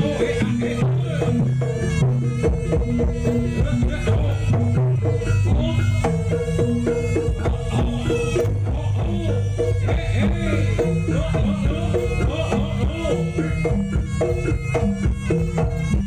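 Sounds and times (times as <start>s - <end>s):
hand drums beating: 0.0s - 16.0s.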